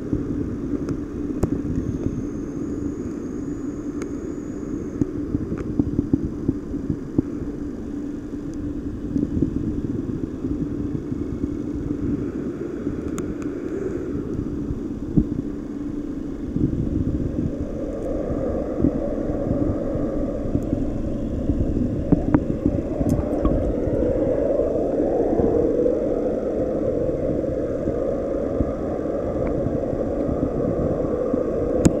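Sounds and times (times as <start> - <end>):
water pump humming: 0.6 - 32.0
underwater aquarium bubbling rumble: 4.2 - 32.0.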